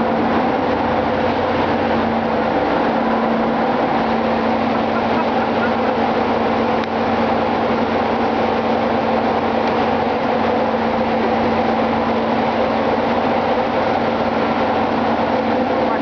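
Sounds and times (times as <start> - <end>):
engine room machinery drone: 0.0 - 16.0.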